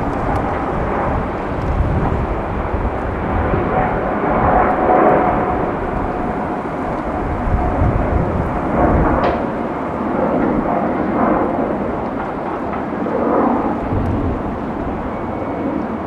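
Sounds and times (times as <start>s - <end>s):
jet engines roaring at takeoff: 0.0s - 16.0s.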